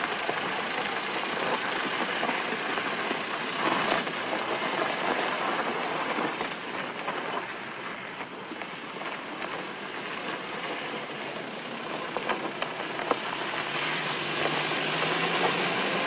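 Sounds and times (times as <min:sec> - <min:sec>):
vehicle driving on gravel: 0:00.0 - 0:16.0.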